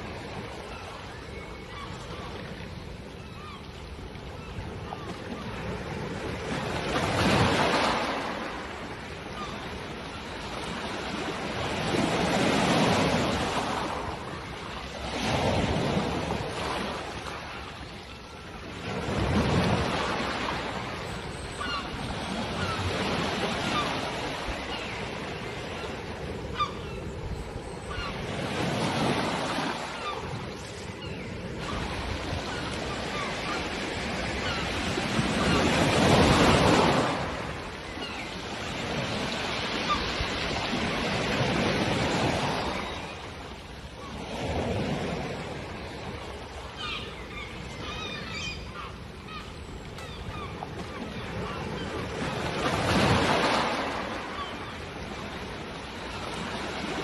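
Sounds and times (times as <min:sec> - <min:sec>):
seagulls calling: 0:00.0 - 0:43.4, 0:45.8 - 0:57.0.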